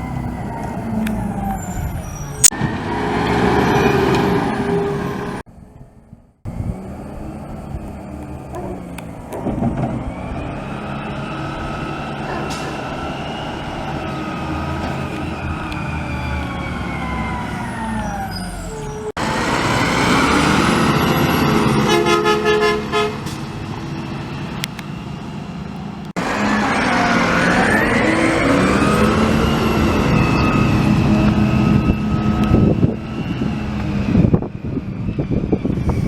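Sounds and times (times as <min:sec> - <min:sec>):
garbage truck squealing: 0:00.0 - 0:05.4, 0:07.2 - 0:23.7, 0:26.2 - 0:36.0.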